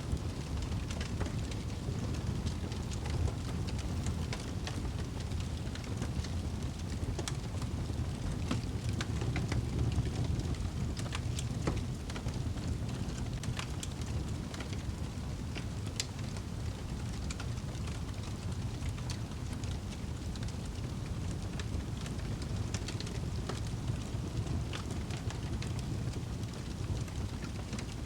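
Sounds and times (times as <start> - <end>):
low rumble of burning: 0.0 - 28.0
fire crackling and popping: 0.1 - 28.0.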